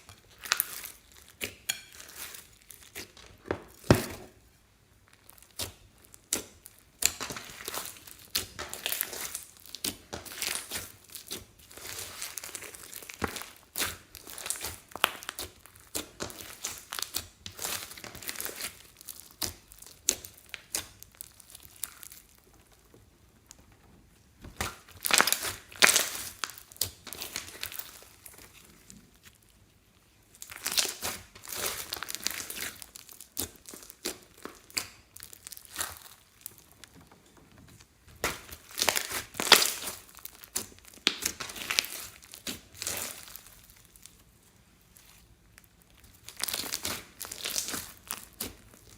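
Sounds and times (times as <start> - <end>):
slime crackling and crinkling: 0.0 - 48.9.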